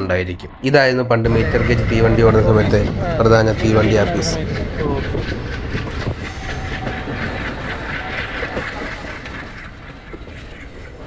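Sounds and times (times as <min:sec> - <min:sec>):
train running on track: 0:01.3 - 0:11.0.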